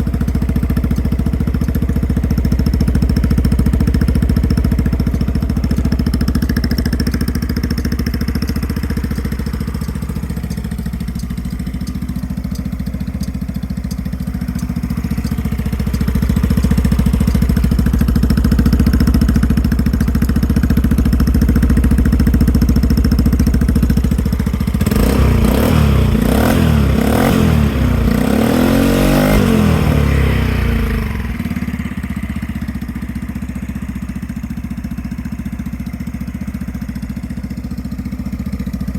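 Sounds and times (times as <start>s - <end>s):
scooter engine idling and revving: 0.0s - 38.9s.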